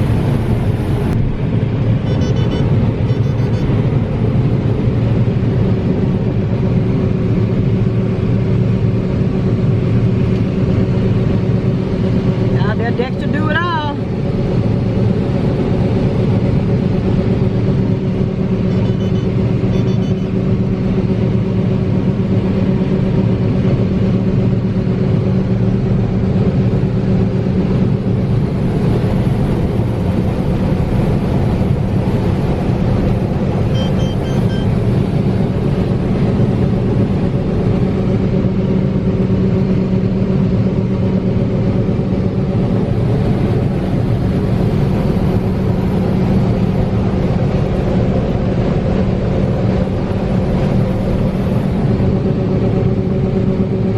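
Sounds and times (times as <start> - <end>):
heavy machinery engine drone: 0.0 - 53.9.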